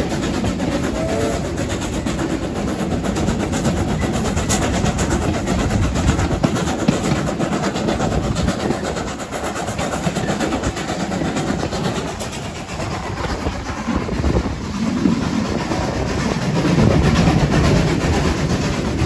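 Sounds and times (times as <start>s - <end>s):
rapid clicking and clatter: 0.0s - 19.0s
train wheels on rails: 0.0s - 19.0s.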